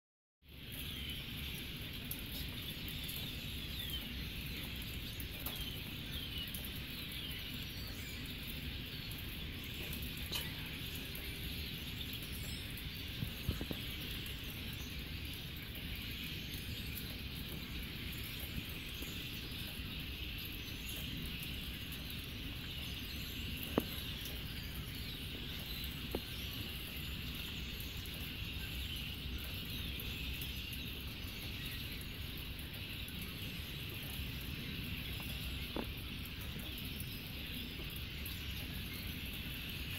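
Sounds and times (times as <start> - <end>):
rain falling: 0.4 - 39.9
water drips ticking: 0.4 - 39.9
birds chirping and singing: 0.7 - 39.9.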